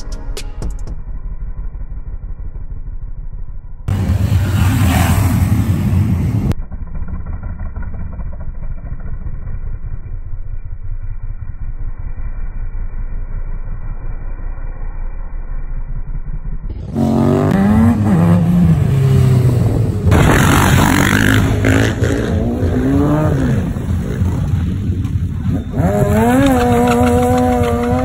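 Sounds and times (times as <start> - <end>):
motorcycle engines revving: 3.9 - 15.2, 15.8 - 28.0.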